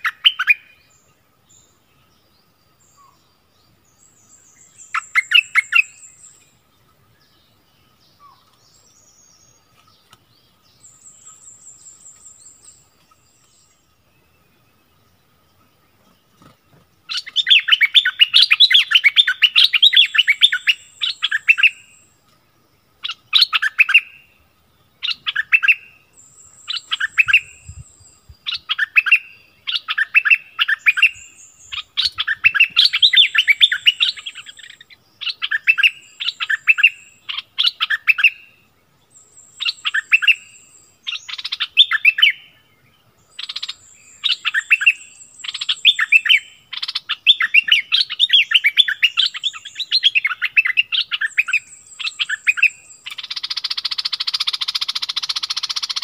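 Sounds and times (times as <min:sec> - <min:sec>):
bird chattering song: 0:00.0 - 0:22.2, 0:22.9 - 0:56.0.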